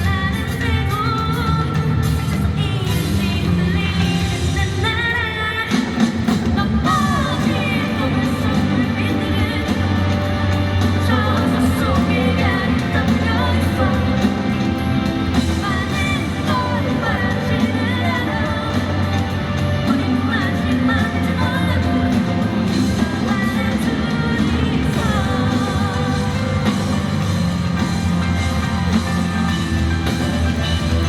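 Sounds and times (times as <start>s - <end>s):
person singing: 0.0s - 29.2s
amplified drums: 0.0s - 31.0s
live rock band: 0.0s - 31.0s.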